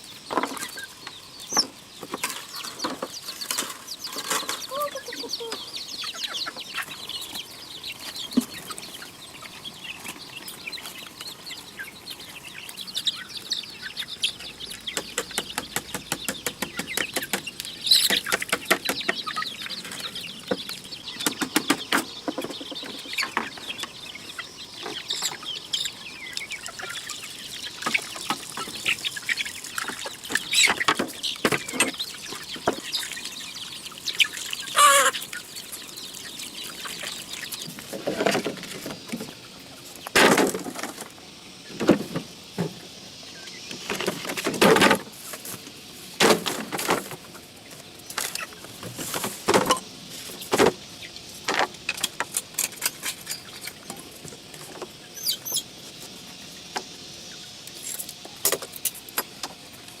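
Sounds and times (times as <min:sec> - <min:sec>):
chickens clucking and chirping: 0:00.0 - 1:00.0.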